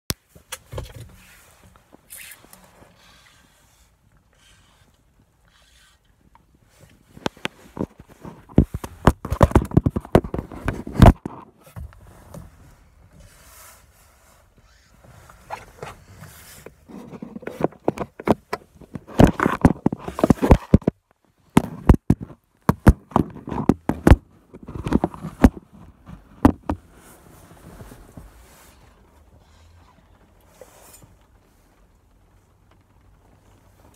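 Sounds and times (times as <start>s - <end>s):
handling knocks and rubbing: 0.1s - 29.3s.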